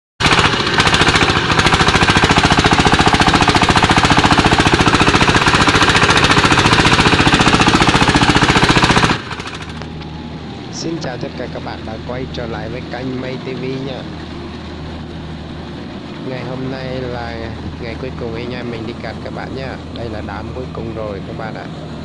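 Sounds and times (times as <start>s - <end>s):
diesel engine chugging: 0.2s - 22.0s.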